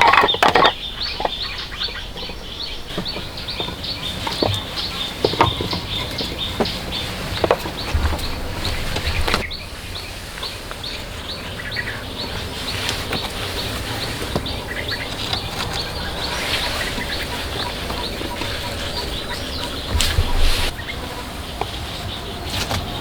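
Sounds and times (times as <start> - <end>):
bird chirping: 0.0 - 23.0.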